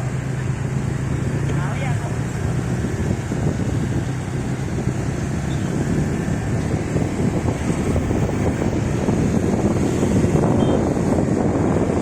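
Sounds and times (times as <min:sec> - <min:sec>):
moving vehicle rumbling: 0:00.0 - 0:12.0
wind buffeting microphone: 0:00.0 - 0:12.0.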